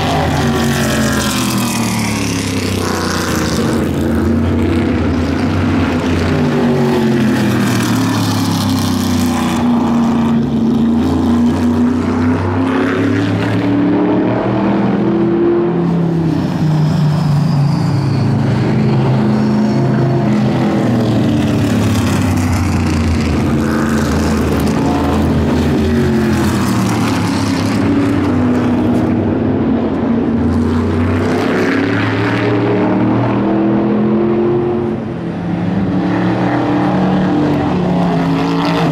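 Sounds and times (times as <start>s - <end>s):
race cars passing: 0.0s - 38.9s.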